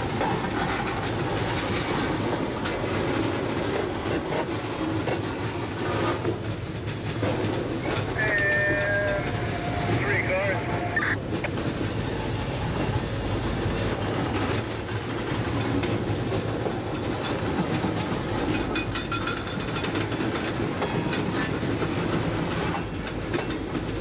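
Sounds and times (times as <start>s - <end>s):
wheels clicking over rail joints: 0.0s - 10.0s, 10.6s - 24.0s
steel wheels rumbling on rail: 0.0s - 24.0s.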